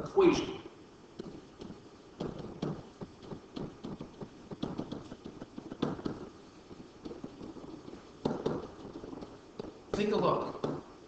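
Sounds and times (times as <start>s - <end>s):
stylus tapping and scratching tablet: 0.8s - 11.0s.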